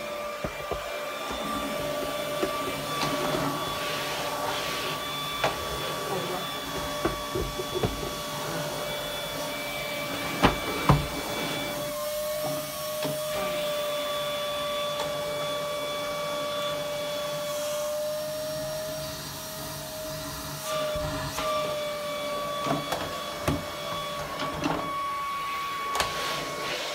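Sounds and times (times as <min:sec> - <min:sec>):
vacuum cleaner motor whine: 0:00.0 - 0:26.9.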